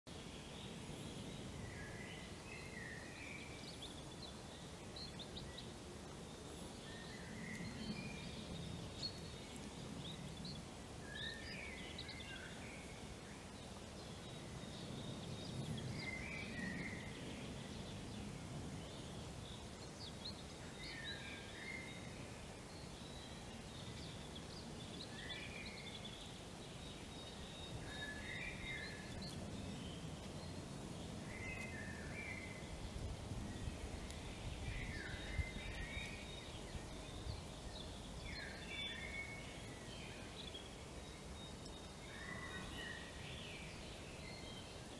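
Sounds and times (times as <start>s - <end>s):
small bird chirping: 1.8s - 13.0s, 19.4s - 44.9s.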